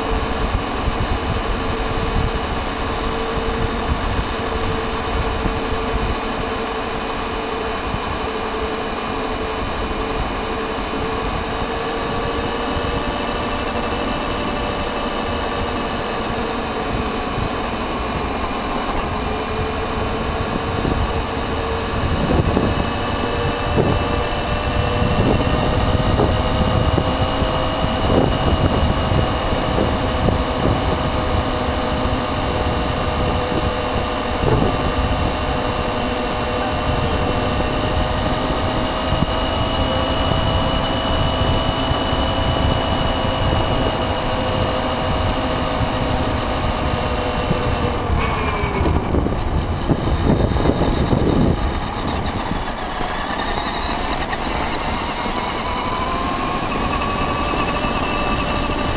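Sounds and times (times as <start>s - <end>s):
steady motor tones: 0.0s - 58.9s
toy car motor running: 0.0s - 58.9s
tyres rumbling on rough path: 0.0s - 58.9s.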